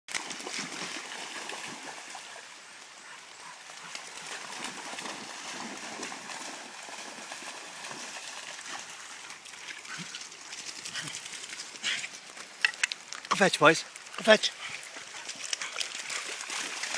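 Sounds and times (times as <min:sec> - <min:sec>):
dogs splashing in water: 0:00.1 - 0:12.6, 0:14.6 - 0:16.9
river water running: 0:00.1 - 0:16.9.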